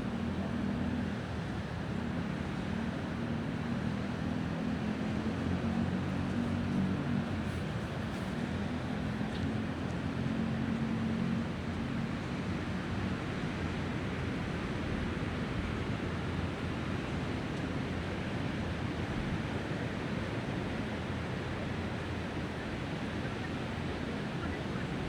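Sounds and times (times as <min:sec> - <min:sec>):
wind: 0:00.0 - 0:25.0.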